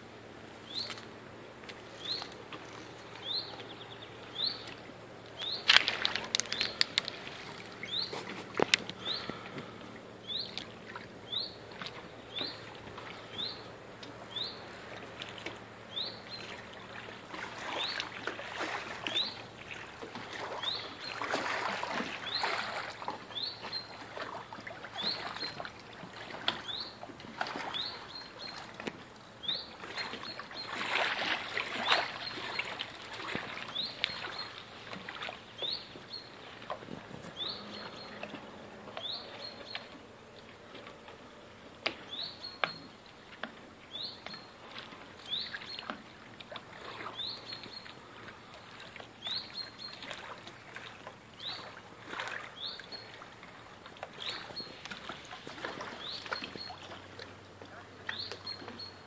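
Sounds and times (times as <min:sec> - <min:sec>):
water lapping against boat hull: 0:00.0 - 0:59.0.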